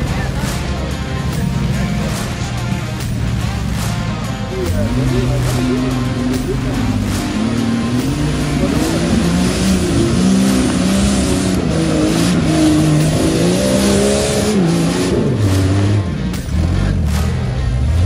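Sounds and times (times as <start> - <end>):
engine revving in bursts: 1.8 - 18.0.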